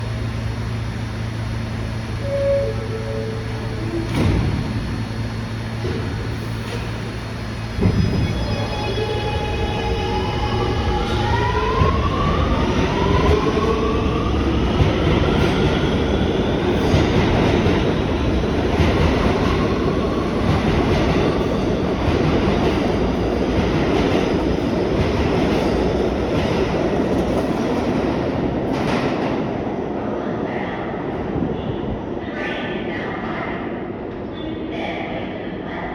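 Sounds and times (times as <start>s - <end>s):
train cars rumbling: 0.0s - 29.6s
subway motors whining: 0.0s - 34.7s.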